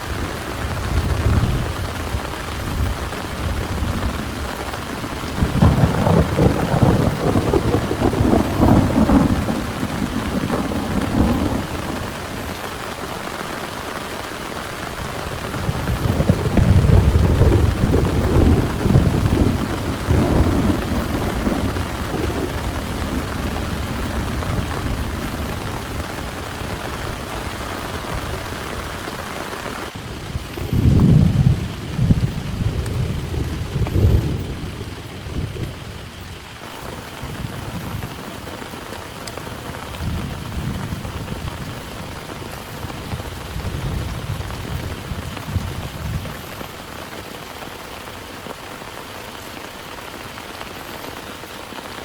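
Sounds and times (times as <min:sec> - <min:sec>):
thunder rolling: 0:00.0 - 0:46.7
heavy rain: 0:00.0 - 0:52.0.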